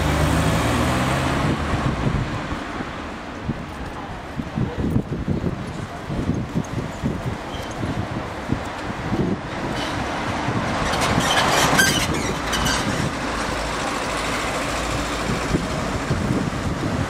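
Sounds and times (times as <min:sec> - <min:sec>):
tyres on road: 0:00.0 - 0:17.0
vehicles driving past slowly: 0:00.0 - 0:17.0.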